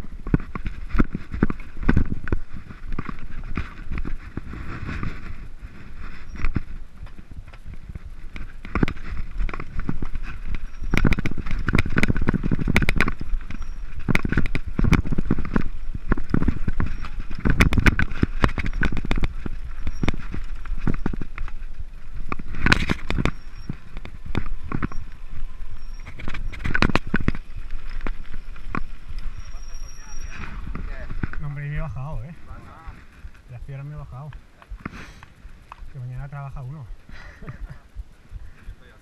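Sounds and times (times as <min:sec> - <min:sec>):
bike knocking and clattering on rocks: 0:00.0 - 0:32.3
bike tyres crunching over stones: 0:00.0 - 0:39.0.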